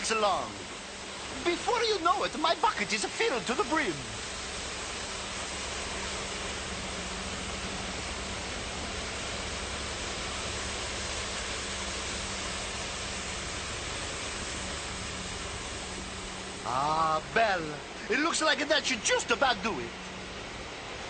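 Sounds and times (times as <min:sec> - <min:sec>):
concrete mixer truck running: 0:00.0 - 0:21.0.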